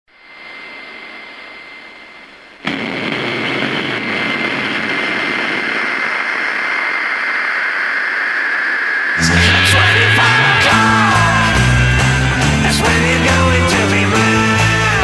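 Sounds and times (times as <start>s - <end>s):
steady rushing noise: 0.1s - 13.1s.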